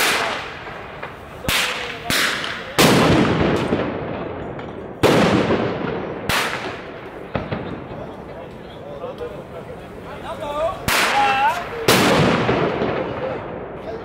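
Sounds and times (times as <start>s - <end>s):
fireworks bangs echoing: 0.0s - 14.0s.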